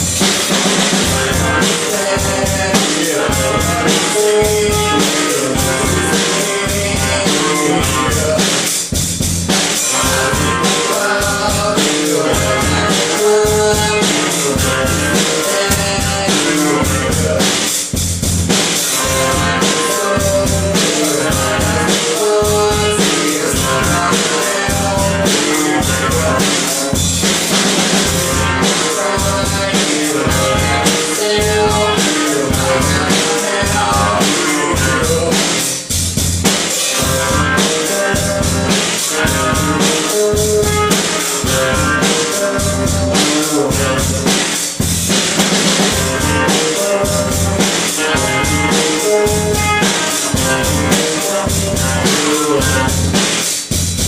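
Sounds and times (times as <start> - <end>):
bass drum and snare beat: 0.0 - 54.0
rock band playing: 0.0 - 54.0.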